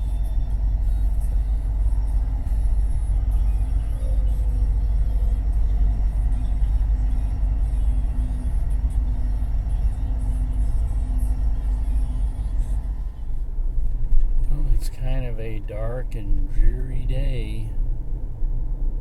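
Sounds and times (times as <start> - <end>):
faint music: 0.0 - 17.8
car interior rumble: 0.0 - 19.0.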